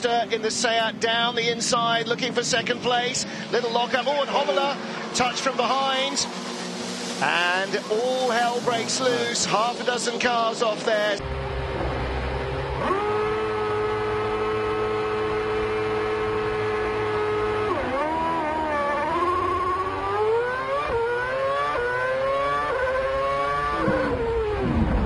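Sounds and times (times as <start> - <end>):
racing car engine revving: 2.4 - 25.0.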